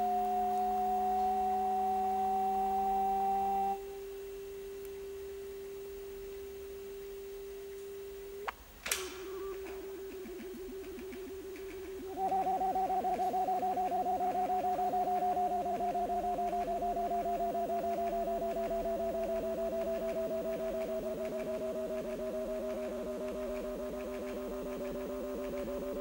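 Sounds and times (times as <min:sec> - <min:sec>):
pulsing electronic drone: 0:00.0 - 0:08.5, 0:09.2 - 0:26.0.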